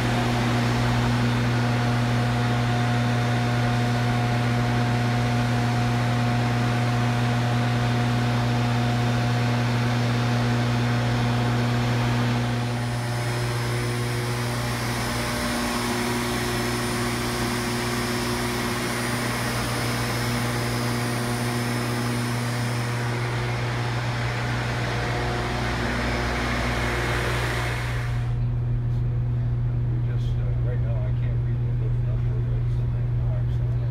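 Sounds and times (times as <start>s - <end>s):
machinery drone with low hum: 0.0s - 33.9s.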